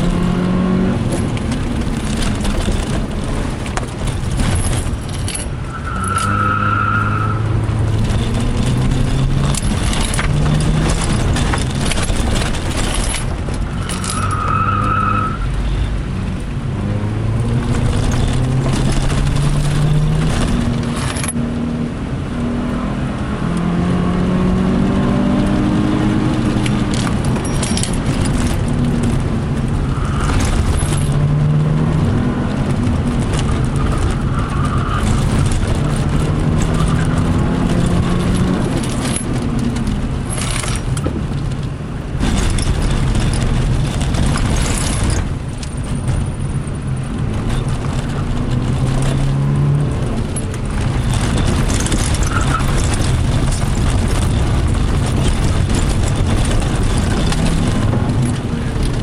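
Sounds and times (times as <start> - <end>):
knocks and rattles: 0.0 - 6.5, 7.1 - 21.6, 24.2 - 59.0
car engine revving: 0.0 - 59.0.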